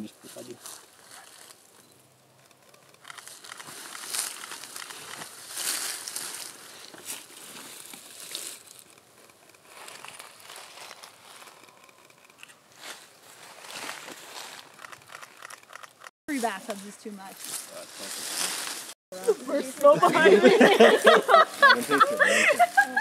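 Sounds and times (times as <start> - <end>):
dry plant stems rustling: 0.0 - 1.8, 2.4 - 23.0.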